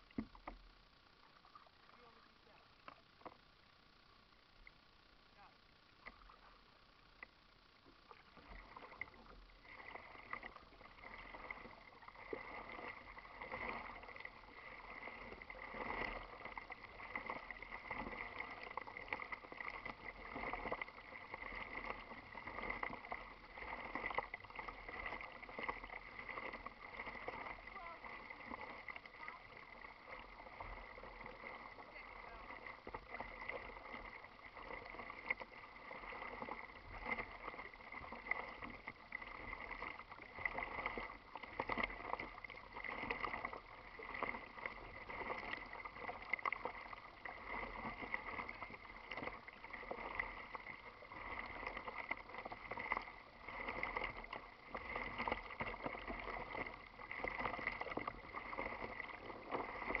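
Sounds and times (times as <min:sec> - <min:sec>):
water splashing against kayak hull: 0:00.0 - 1:00.0.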